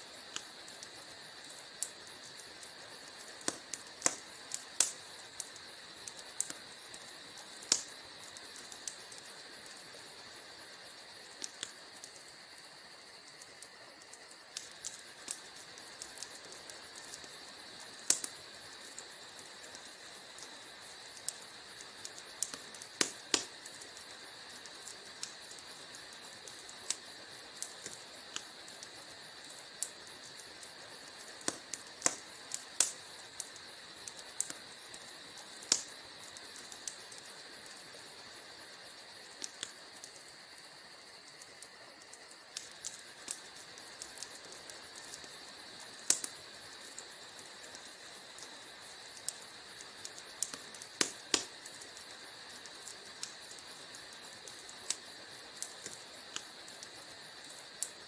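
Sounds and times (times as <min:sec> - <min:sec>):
faint steady hiss: 0:00.0 - 0:58.0
wood fire crackling: 0:00.0 - 0:58.0.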